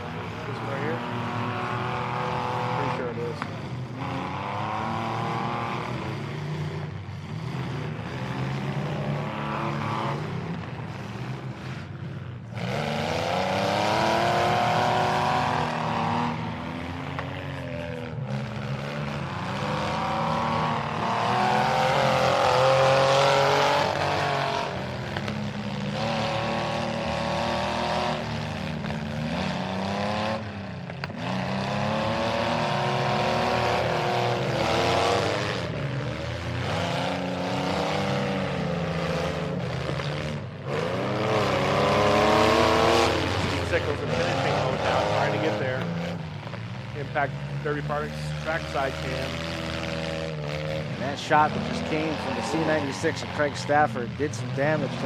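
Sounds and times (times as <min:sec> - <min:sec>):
vehicle engines revving: 0:00.0 - 0:55.0.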